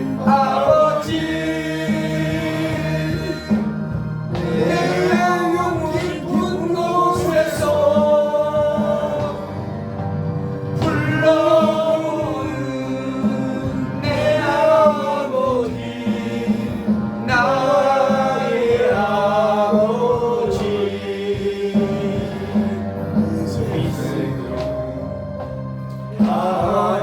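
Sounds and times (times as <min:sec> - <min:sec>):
person singing worship song: 0:00.0 - 0:09.8, 0:10.8 - 0:25.3, 0:26.0 - 0:27.0
instrumental backing: 0:00.0 - 0:27.0.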